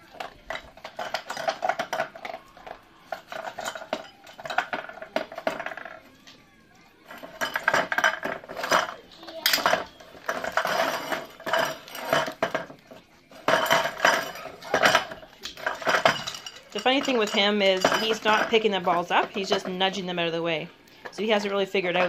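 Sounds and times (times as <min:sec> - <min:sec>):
metal tin clattering on wooden floor: 0:00.0 - 0:06.0, 0:07.1 - 0:20.3.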